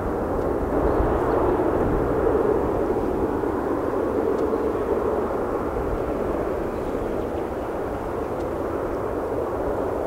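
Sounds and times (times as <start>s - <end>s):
distant jet engines roaring: 0.0s - 10.0s.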